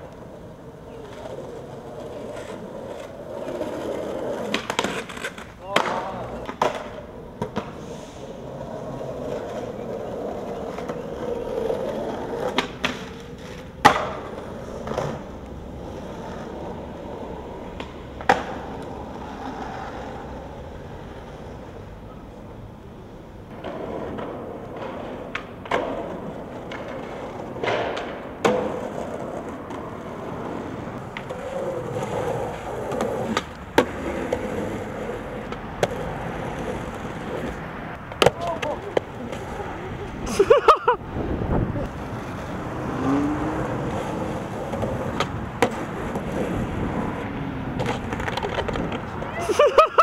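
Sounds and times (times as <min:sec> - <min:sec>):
skateboard clacks and slaps: 0:00.0 - 0:20.3, 0:23.5 - 0:40.2, 0:43.8 - 0:50.0
skateboard wheels rolling on pavement: 0:00.0 - 0:50.0.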